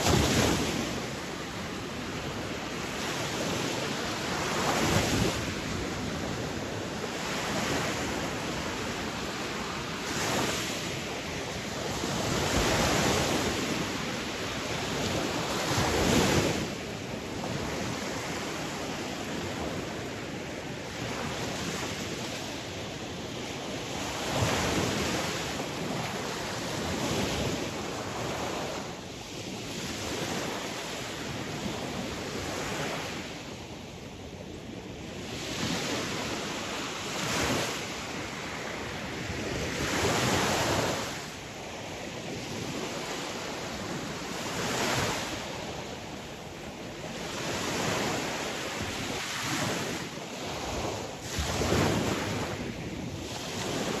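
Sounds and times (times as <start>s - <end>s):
sea waves: 0.0s - 54.0s.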